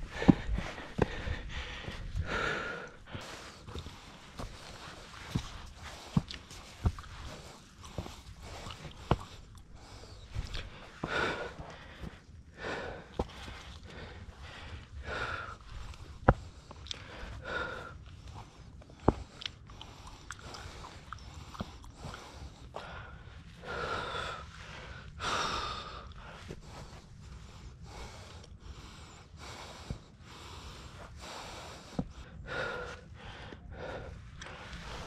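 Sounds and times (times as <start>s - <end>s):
heavy breathing: 0.0s - 35.0s.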